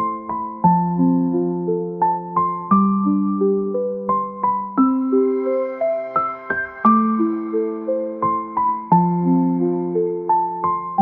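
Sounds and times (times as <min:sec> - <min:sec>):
soft slow electric piano: 0:00.0 - 0:11.0.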